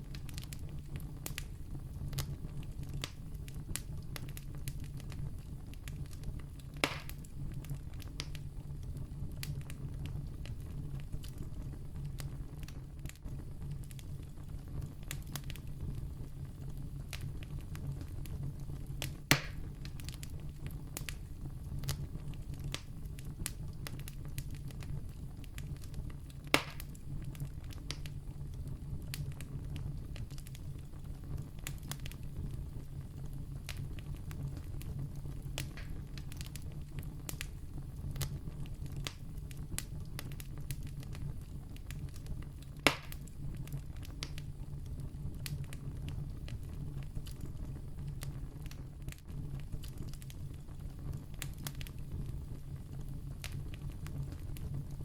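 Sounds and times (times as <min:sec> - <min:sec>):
campfire flame rumble: 0:00.0 - 0:55.0
fire crackling: 0:00.0 - 0:55.0
loud fire pops: 0:00.0 - 0:55.0.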